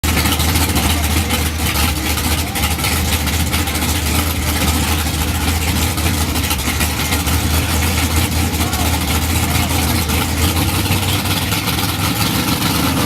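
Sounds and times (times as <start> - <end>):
large engine rumbling: 0.0 - 13.0.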